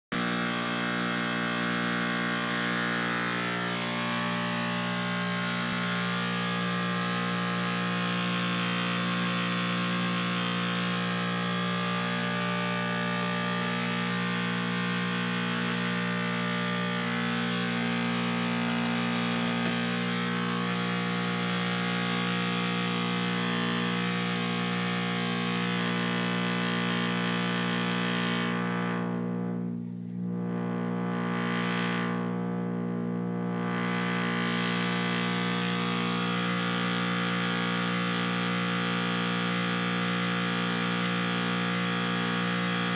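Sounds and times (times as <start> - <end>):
buzzy synthesizer tone: 0.1 - 42.9.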